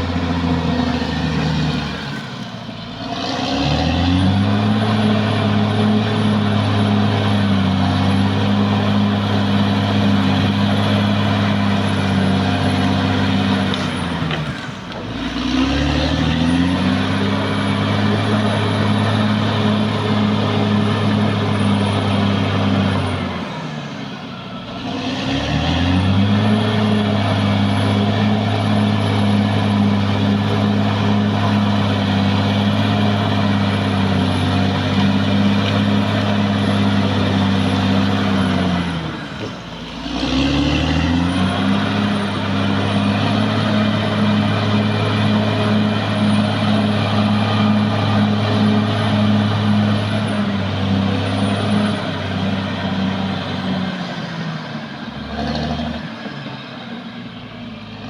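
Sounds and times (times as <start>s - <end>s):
bulldozer diesel engine running hard: 0.0s - 58.0s.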